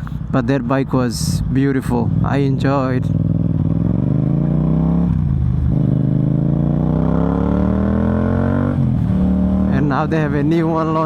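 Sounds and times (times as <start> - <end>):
motorcycle engine accelerating: 1.2 - 11.0.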